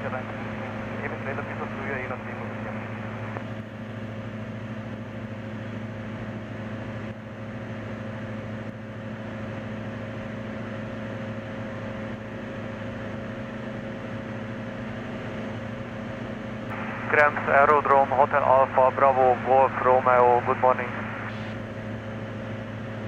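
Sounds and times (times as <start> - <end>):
light aircraft engine drone: 0.0 - 23.0.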